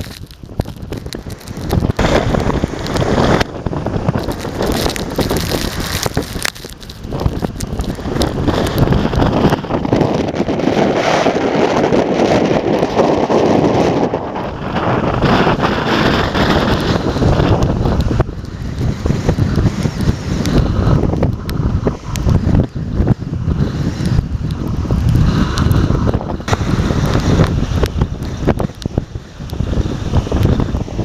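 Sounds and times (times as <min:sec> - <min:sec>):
strong wind buffeting microphone: 0:00.0 - 0:31.0
waves breaking against quay: 0:00.0 - 0:31.0.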